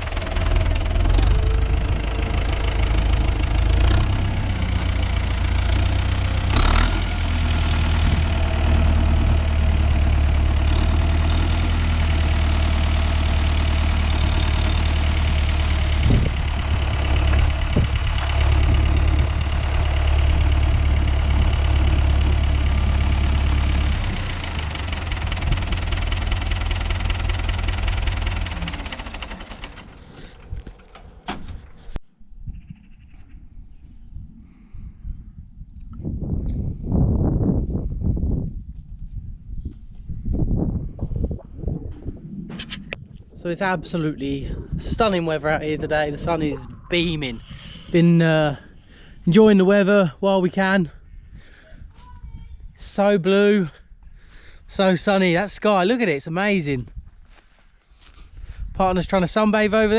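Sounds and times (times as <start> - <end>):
tractor diesel engine droning: 0.0 - 32.0, 41.8 - 50.8, 51.4 - 59.9.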